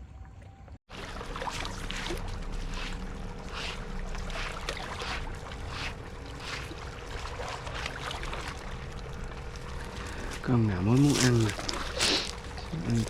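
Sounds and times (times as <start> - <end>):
shallow water splashing: 0.9 - 13.0.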